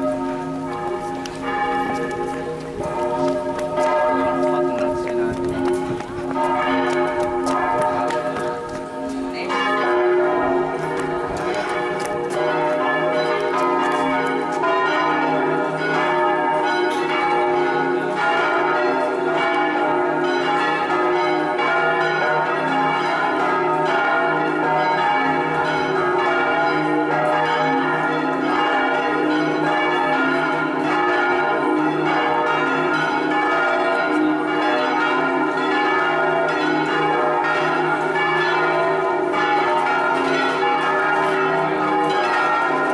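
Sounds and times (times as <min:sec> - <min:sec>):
church bells pealing: 0:00.0 - 0:42.9.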